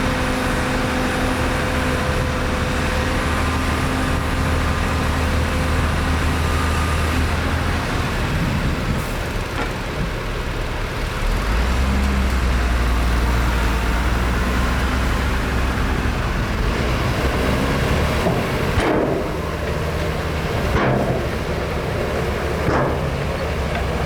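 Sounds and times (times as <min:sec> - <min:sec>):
heavy diesel engine under load: 0:00.0 - 0:24.0.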